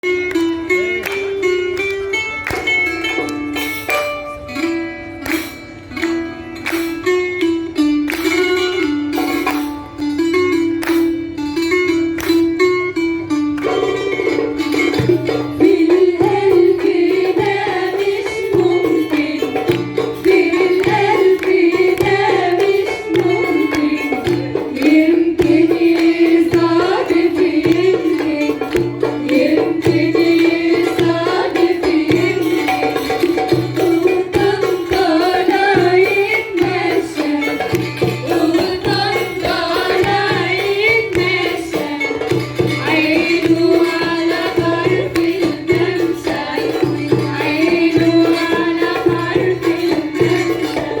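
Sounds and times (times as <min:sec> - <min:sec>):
hand drum beat: 0:00.0 - 0:51.0
plucked lyre melody: 0:00.0 - 0:51.0.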